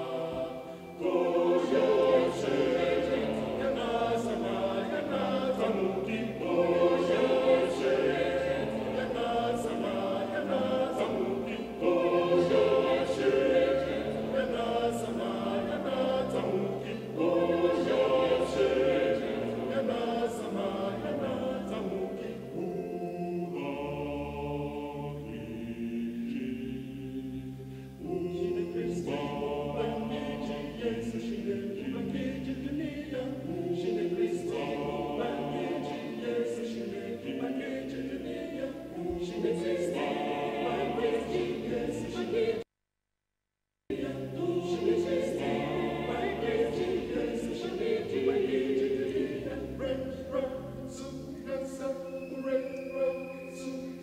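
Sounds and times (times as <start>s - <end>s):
choir singing a cappella: 0.0s - 42.7s, 43.9s - 54.0s.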